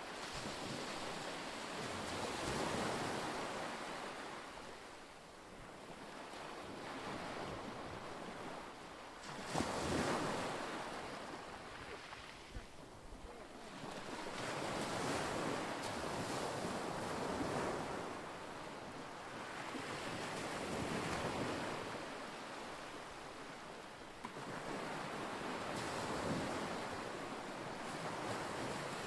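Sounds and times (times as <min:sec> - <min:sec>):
lake water washing on shore: 0:00.0 - 0:29.0
wind: 0:00.0 - 0:29.0.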